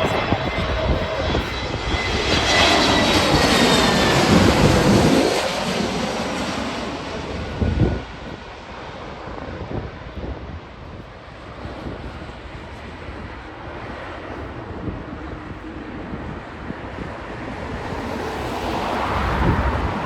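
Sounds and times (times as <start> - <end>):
jet engines passing: 0.0 - 20.0.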